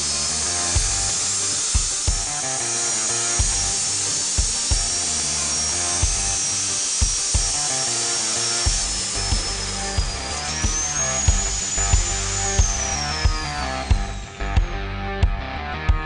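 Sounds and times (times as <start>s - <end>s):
cut-off saw whining: 0.0s - 15.2s
background music with steady beat: 0.0s - 16.0s.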